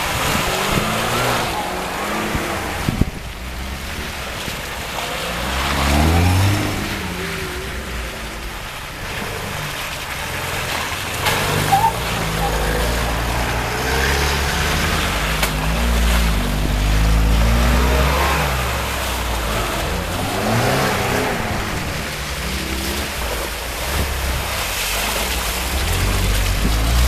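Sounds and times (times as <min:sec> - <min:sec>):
engines revving under load: 0:00.0 - 0:27.0
tyres splashing through mud: 0:00.0 - 0:27.0.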